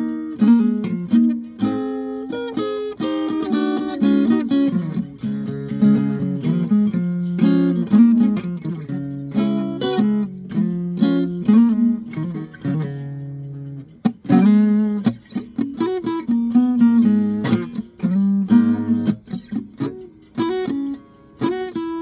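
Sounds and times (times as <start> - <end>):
guitar chords strummed: 0.0 - 22.0.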